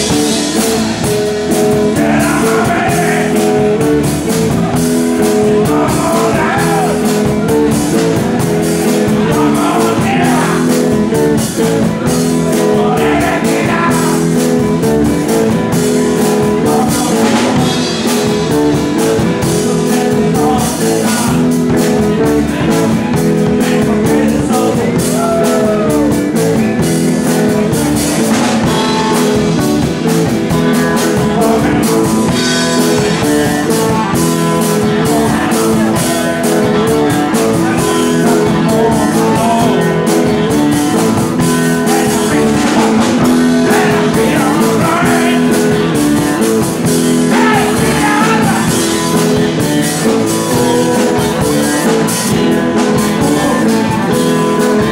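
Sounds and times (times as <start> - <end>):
bass guitar: 0.0 - 54.9
drum kit: 0.0 - 54.9
electric guitar: 0.0 - 54.9.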